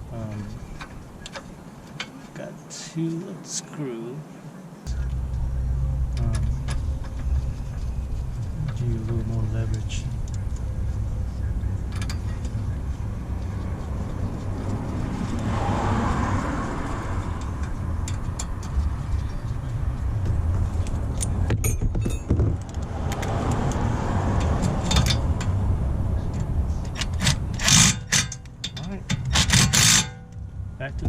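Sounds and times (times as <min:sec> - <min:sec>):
steady low rumble: 0:04.8 - 0:31.0.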